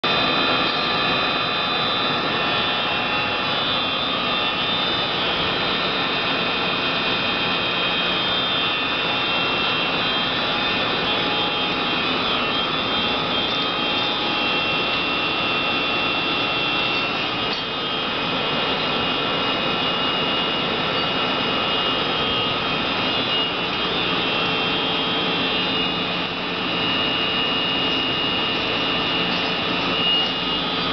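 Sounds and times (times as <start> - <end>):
lathe gearing whine: 0.0 - 30.9
lathe machine hum: 0.0 - 30.9.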